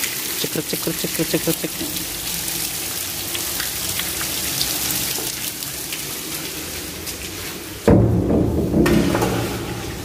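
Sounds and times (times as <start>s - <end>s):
raindrops ticking close by: 0.0s - 10.0s.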